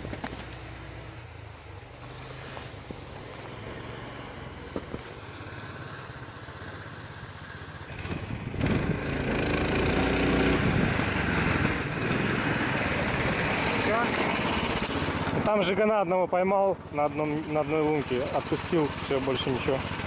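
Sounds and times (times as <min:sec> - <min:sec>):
tracked tractor engine running: 0:00.0 - 0:20.0.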